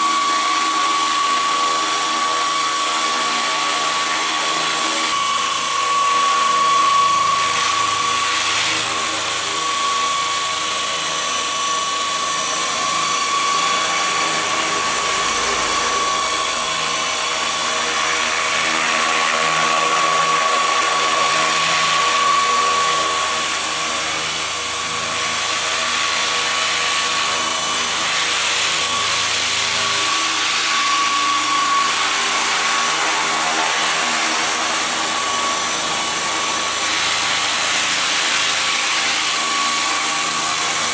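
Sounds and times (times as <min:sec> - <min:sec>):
electric motor whine: 0:00.0 - 0:40.9
helicopter rotors whirring: 0:00.0 - 0:40.9.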